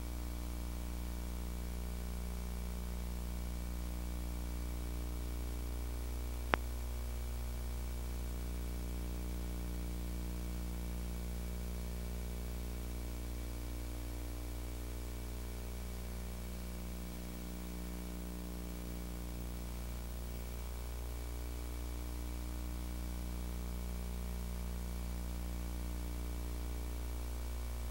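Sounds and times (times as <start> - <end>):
tape hiss and electrical hum: 0.0 - 27.9.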